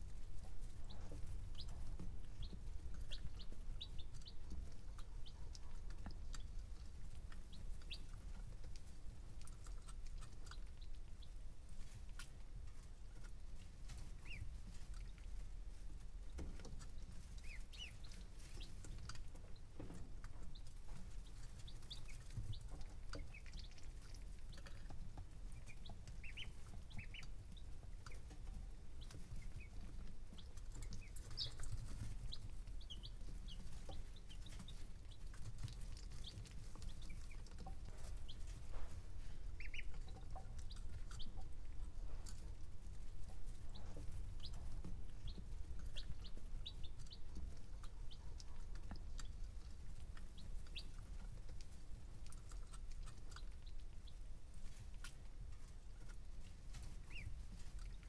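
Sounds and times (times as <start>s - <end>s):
chicks and ducklings peeping: 0.0s - 58.0s.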